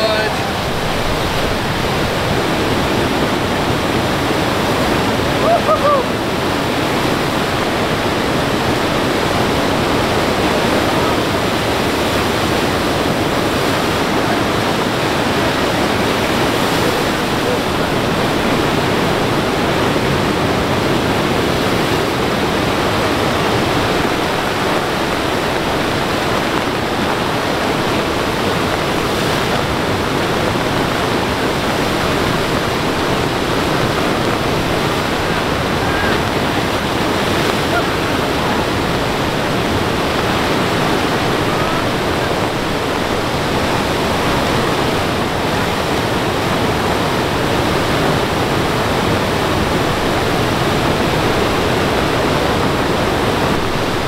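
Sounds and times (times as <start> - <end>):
river water rushing roar: 0.0 - 54.0.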